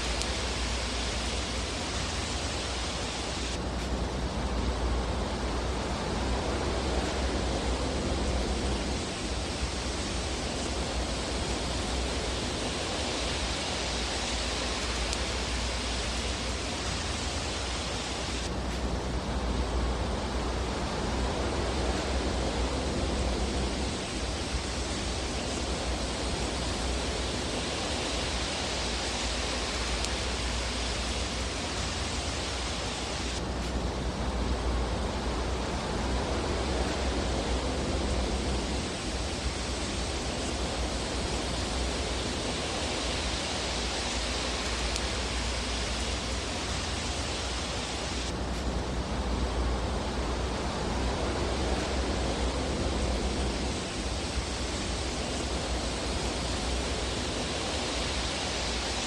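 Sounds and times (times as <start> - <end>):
fireplace hiss and rumble: 0.0 - 59.0.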